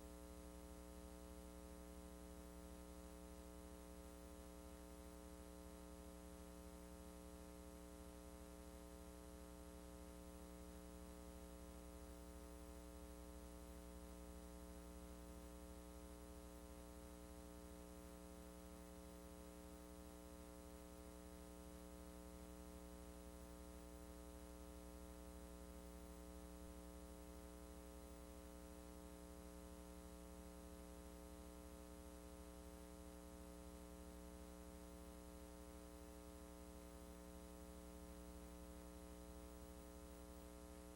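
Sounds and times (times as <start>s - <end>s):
faint electrical mains hum: 0.0s - 40.9s.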